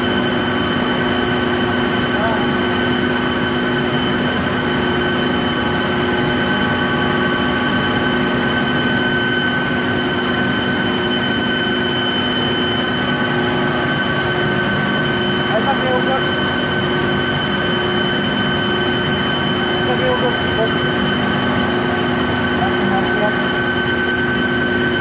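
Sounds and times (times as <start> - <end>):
chiller machinery droning: 0.0 - 25.0.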